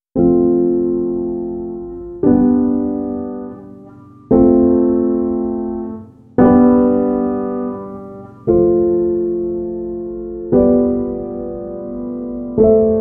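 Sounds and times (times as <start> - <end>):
slow piano chords: 0.1 - 13.0.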